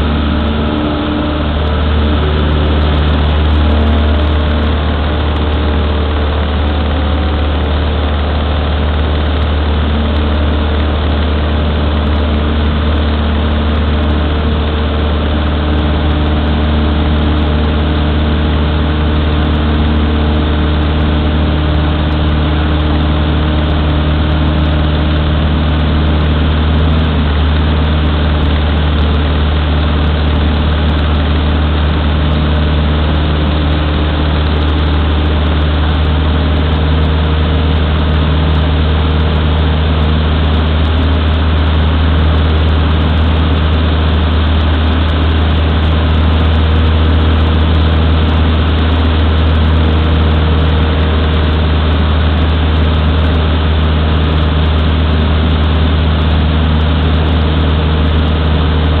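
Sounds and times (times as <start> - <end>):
airplane engine and propeller droning: 0.0 - 59.0.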